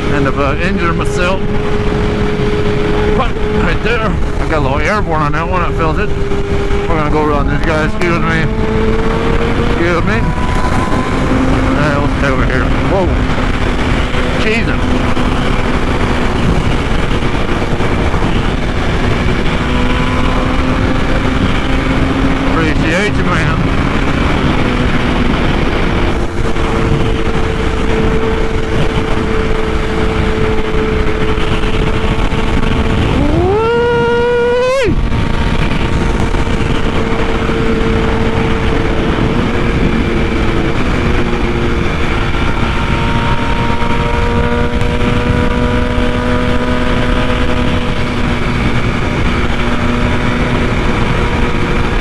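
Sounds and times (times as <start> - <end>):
motorcycle engine revving: 0.0 - 52.0
wind rush: 0.0 - 52.0.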